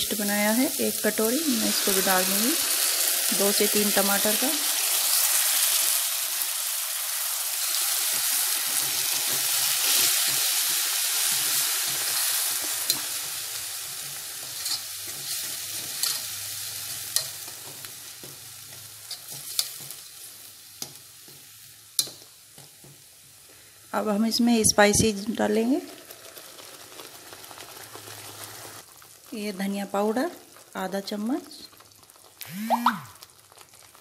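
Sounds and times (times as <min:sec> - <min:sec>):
paste sizzling in hot oil: 0:00.0 - 0:23.9, 0:25.3 - 0:34.0.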